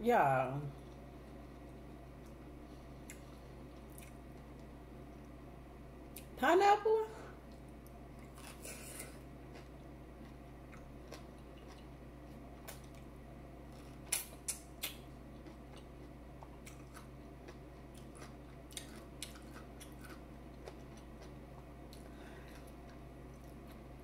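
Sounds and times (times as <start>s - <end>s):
faint low hum: 0.0s - 24.0s
person chewing: 0.8s - 5.3s, 7.5s - 13.1s, 13.7s - 24.0s.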